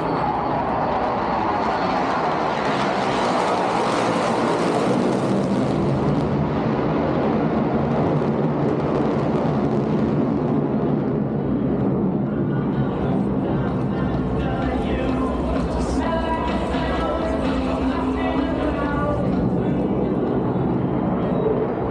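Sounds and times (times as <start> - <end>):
loud jet engine noise: 0.0 - 21.9.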